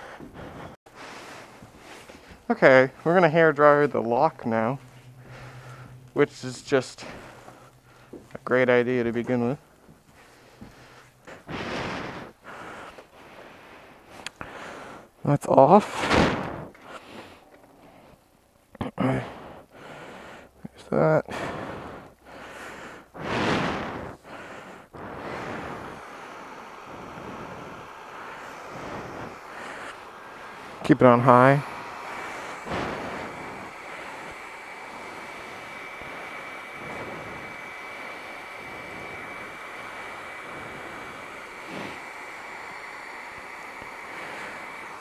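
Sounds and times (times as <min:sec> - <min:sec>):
hairdryer blowing air: 0:00.0 - 0:17.8, 0:19.1 - 0:45.0.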